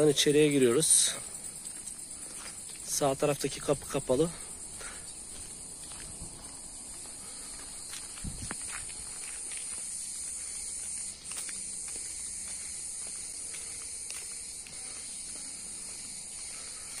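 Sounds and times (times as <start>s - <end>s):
insects chirring: 0.0s - 17.0s
faint footsteps: 1.1s - 17.0s.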